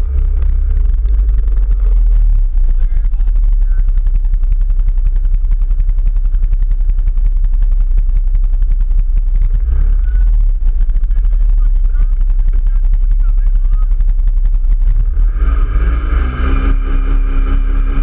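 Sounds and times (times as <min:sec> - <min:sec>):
engine exhaust popping: 0:00.0 - 0:18.0.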